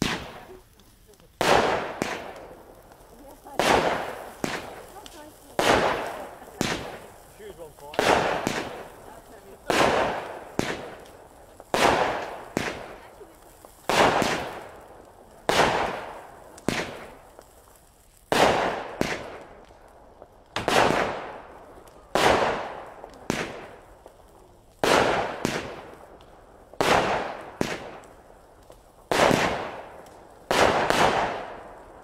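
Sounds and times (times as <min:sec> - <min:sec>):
firework barrage firing: 0:00.0 - 0:32.0.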